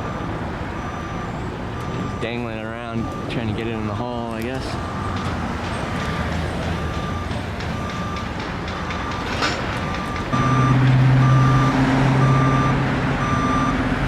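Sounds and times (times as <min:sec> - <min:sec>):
back-up alarm beeping: 0:00.0 - 0:13.8
heavy engine droning: 0:00.0 - 0:14.0.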